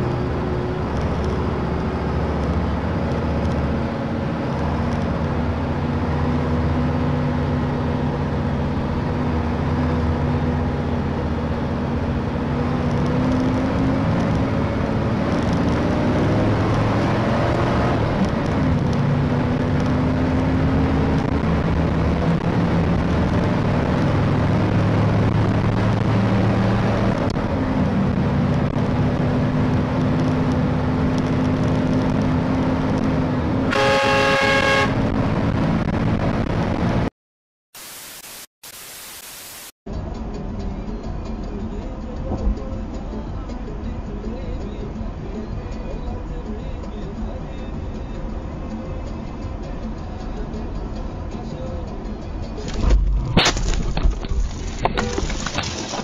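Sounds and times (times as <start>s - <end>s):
road noise: 0.0s - 37.1s, 37.8s - 56.0s.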